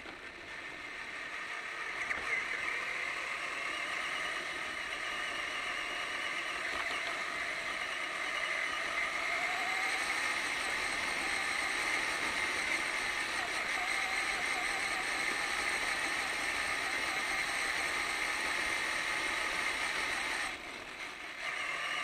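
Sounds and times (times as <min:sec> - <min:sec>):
rc truck motor whining: 0:00.0 - 0:22.0.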